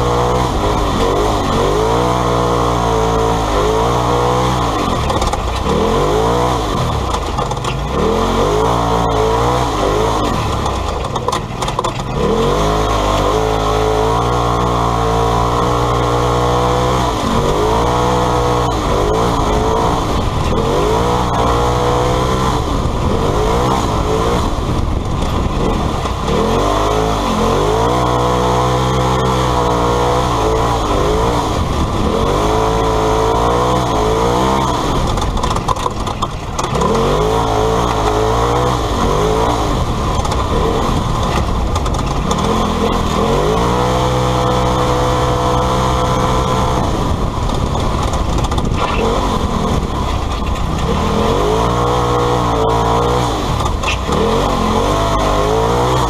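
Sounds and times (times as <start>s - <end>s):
engine revving from inside cab: 0.0s - 7.2s, 12.2s - 35.4s, 36.6s - 56.0s.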